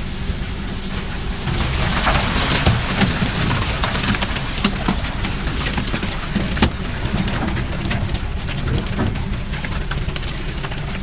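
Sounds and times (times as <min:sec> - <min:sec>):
boat engine rumble: 0:00.0 - 0:11.0
hose water splashing onto fish: 0:00.0 - 0:11.0.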